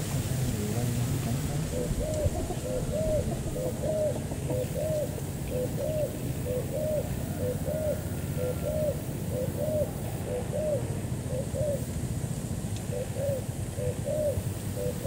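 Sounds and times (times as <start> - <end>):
doves cooing: 0.0 - 12.0, 12.8 - 15.0.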